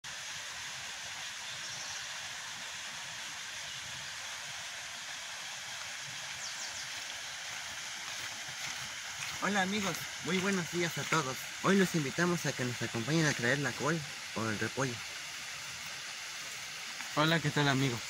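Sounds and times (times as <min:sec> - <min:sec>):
outdoor ambient hiss: 0:00.0 - 0:18.0.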